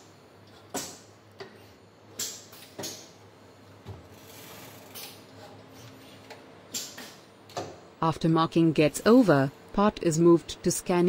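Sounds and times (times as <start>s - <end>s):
faint machine hum: 0.0s - 11.0s.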